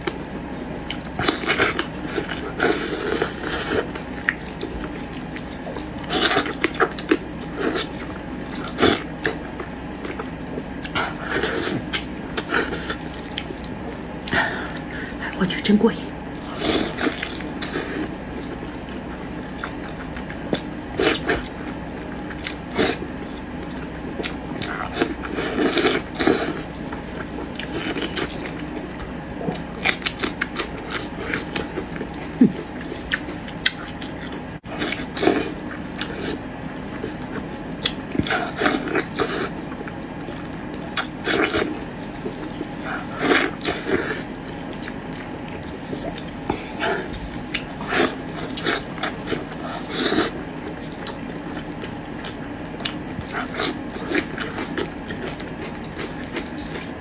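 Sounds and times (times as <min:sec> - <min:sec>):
wet chewing and slurping: 0:00.0 - 0:15.3, 0:16.1 - 0:57.0
steady low hum: 0:00.0 - 0:57.0.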